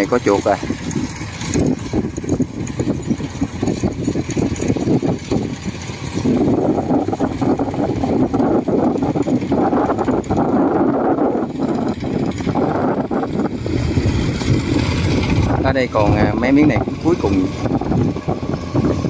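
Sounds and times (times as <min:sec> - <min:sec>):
combine harvester engine drone: 0:00.0 - 0:19.0.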